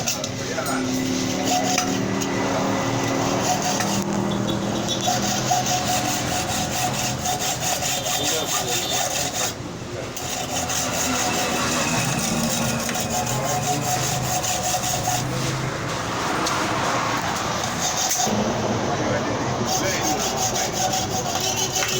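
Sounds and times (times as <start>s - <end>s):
file rasping on metal: 0.0s - 18.4s, 19.6s - 21.9s.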